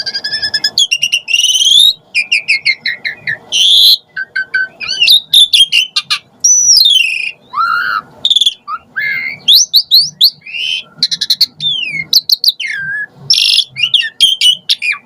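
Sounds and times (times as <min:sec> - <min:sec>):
starling singing chirps and whistles: 0:00.0 - 0:15.0.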